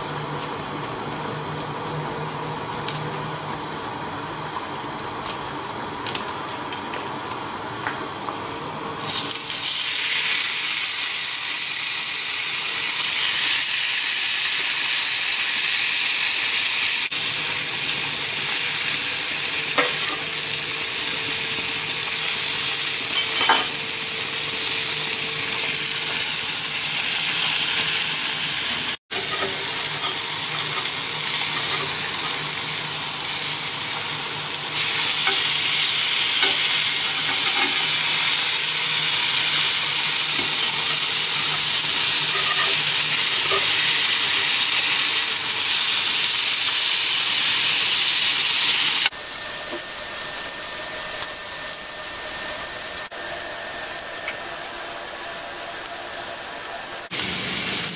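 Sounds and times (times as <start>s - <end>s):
fish sizzling on a grill pan: 9.0s - 56.4s, 57.1s - 57.9s.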